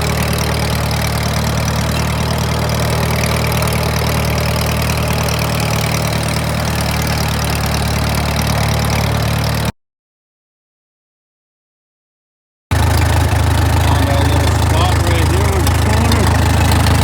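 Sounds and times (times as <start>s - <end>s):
engine idling: 0.0s - 9.7s, 12.7s - 17.0s.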